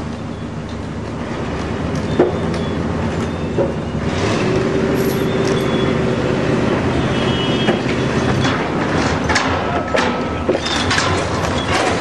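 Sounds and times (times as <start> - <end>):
engine and machinery rumble: 0.0 - 12.0.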